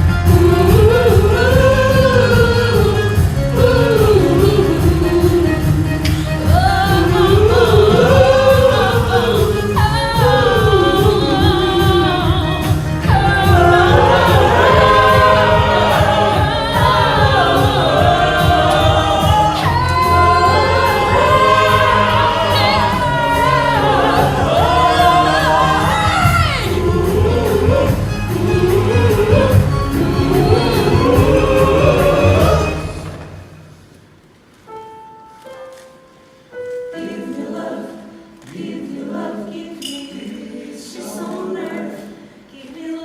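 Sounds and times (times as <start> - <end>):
voices singing in harmony: 0.0 - 33.6, 36.6 - 43.0
instrumental accompaniment: 0.0 - 37.4.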